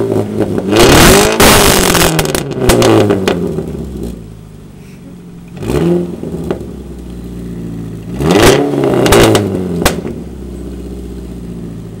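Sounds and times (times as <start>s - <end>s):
car engine idling and revving: 0.0s - 12.0s
exhaust crack: 0.0s - 12.0s.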